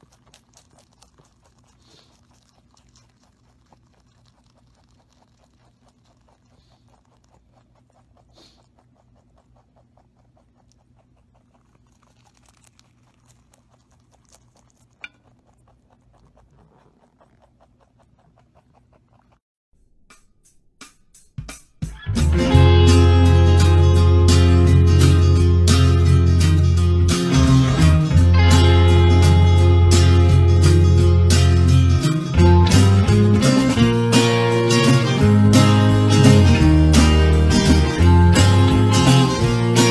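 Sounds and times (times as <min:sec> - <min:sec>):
rabbit crunching greens: 0:00.0 - 0:19.4, 0:22.0 - 0:39.9.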